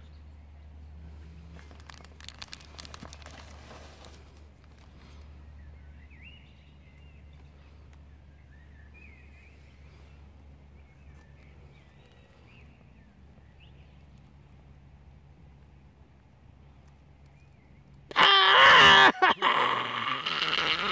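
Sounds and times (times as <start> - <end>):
faint birdsong: 0.0 - 19.2.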